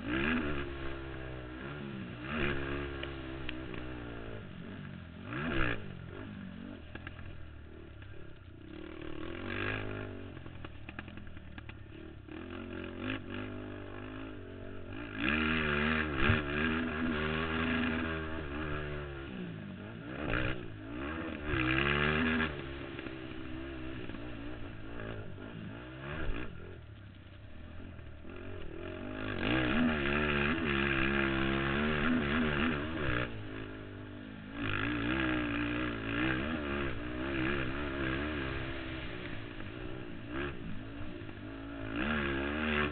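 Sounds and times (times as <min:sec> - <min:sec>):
quad engine revving: 0:00.0 - 0:26.9, 0:27.6 - 0:42.9.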